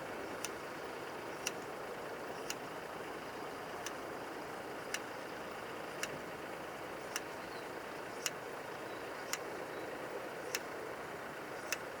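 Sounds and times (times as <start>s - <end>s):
background hum: 0.0s - 12.0s
sharp ticking: 0.2s - 12.0s.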